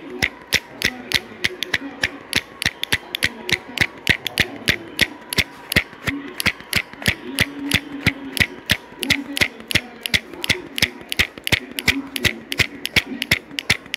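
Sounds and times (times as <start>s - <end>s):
rapid ticking clicks: 0.0s - 13.9s.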